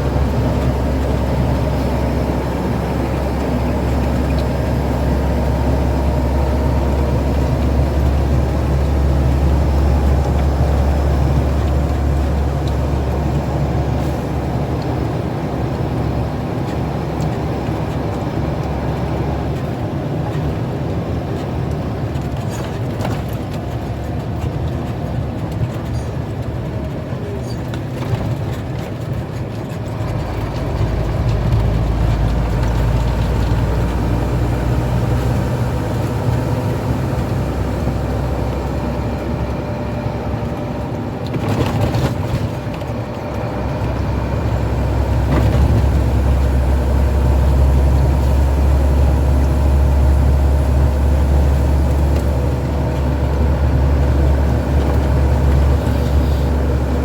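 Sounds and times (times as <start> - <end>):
road noise: 0.0 - 57.0
truck engine running: 0.0 - 57.0.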